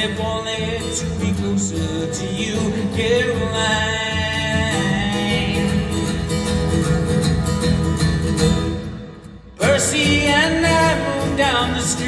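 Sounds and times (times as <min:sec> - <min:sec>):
live country-rock band playing: 0:00.0 - 0:12.0.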